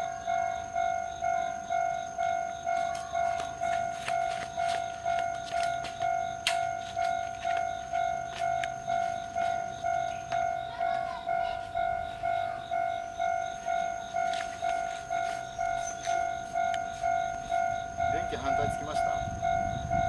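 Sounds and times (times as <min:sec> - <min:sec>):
railroad crossing bell clanging: 0:00.0 - 0:20.0.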